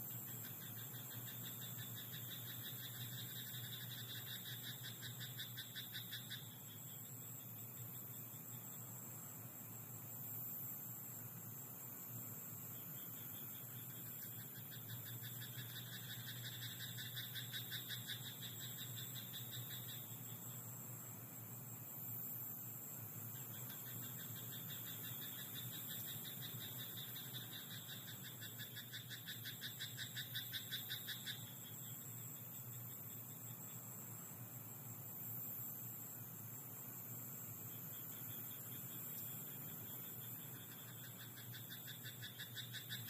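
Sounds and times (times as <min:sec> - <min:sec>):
frogs croaking: 0:00.0 - 0:43.0
steady high hiss: 0:00.0 - 0:43.0.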